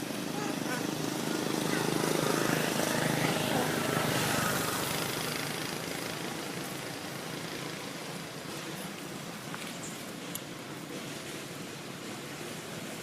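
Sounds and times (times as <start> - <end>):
motor vehicle engine: 0.0 - 13.0.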